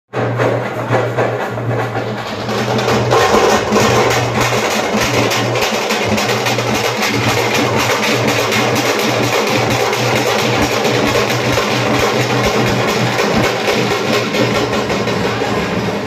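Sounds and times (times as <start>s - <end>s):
fast loud drumming: 0.1s - 16.0s.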